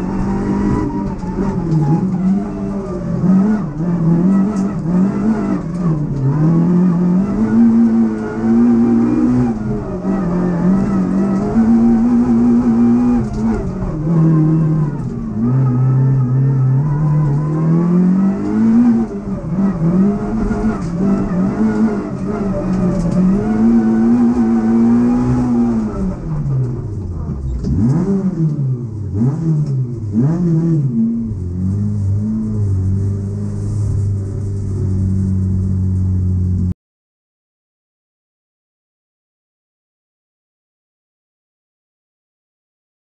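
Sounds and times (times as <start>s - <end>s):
rally car engine revving: 0.0s - 36.7s.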